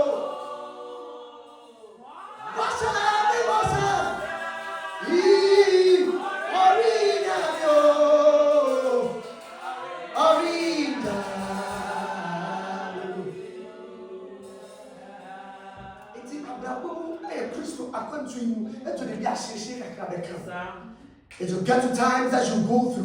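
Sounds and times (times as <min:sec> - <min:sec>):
voices singing together: 0:00.0 - 0:23.0.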